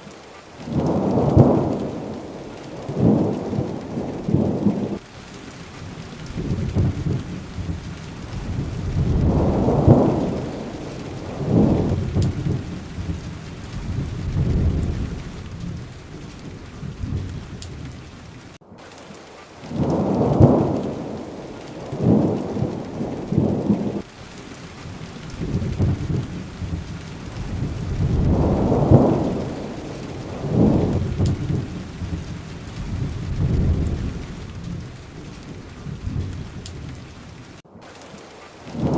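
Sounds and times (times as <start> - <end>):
steady rain falling: 0.0 - 38.9
thunder rumbling: 0.6 - 18.6, 19.6 - 37.6, 38.7 - 38.9.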